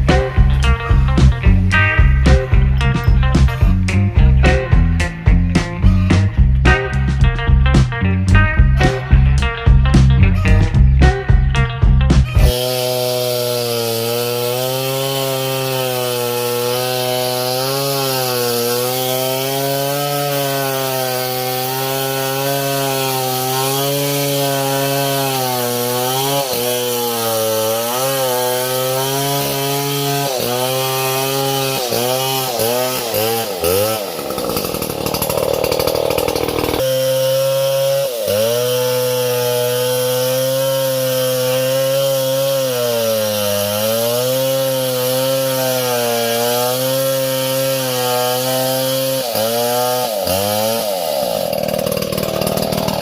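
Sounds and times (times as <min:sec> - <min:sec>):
chainsaw cutting wood: 0:00.0 - 0:08.0, 0:08.7 - 0:53.0.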